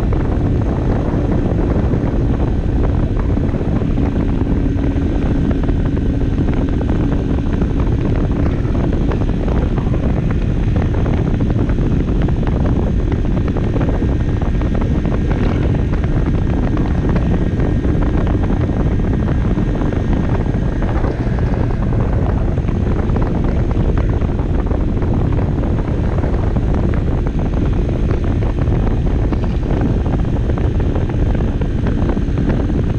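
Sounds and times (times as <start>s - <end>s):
moped engine running: 0.0s - 32.9s
wind noise on microphone: 0.0s - 32.9s.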